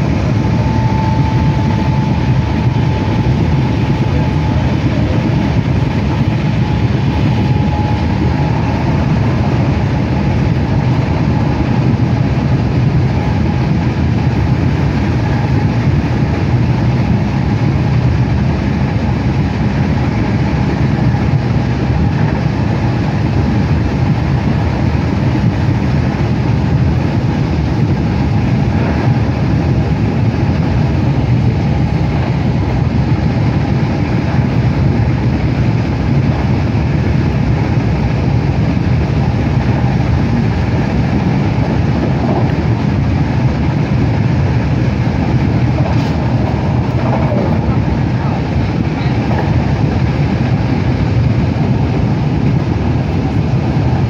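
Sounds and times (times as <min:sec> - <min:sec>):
train running noise inside: 0:00.0 - 0:54.0.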